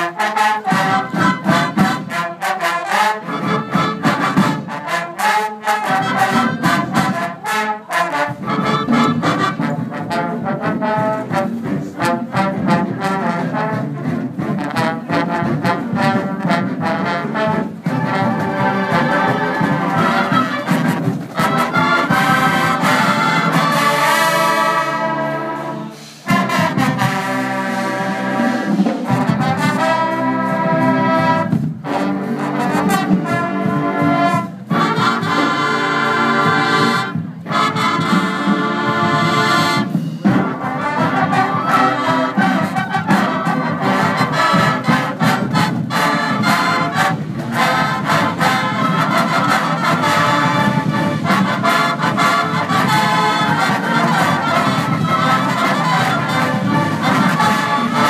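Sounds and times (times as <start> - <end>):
brass band playing loud chords: 0.0 - 58.0.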